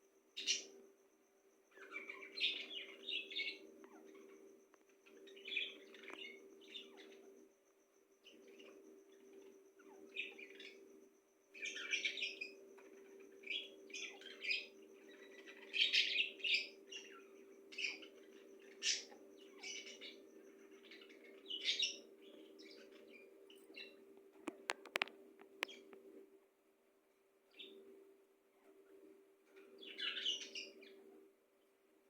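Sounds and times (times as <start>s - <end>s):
steady low hum: 0.0s - 32.0s
birds chirping: 0.4s - 0.9s, 1.5s - 26.2s, 27.5s - 31.2s.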